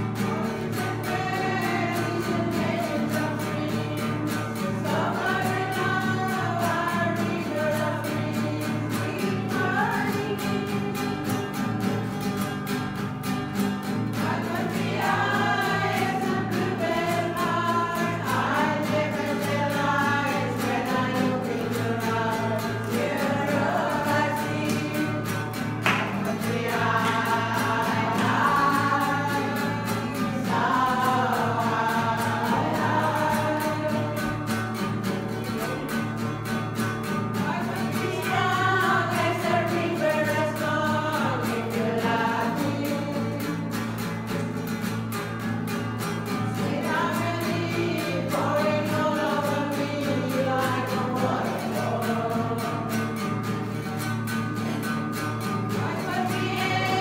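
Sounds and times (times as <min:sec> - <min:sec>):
strummed acoustic guitar: 0:00.0 - 0:57.0
women's choir singing: 0:00.0 - 0:57.0.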